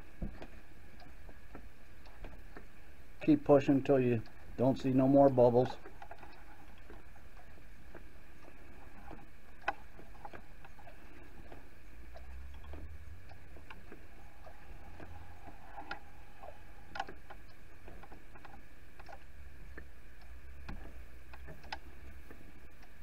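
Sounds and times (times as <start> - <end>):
small clicks and liquid ticks: 0.0 - 23.0
steady low rumble: 0.0 - 23.0.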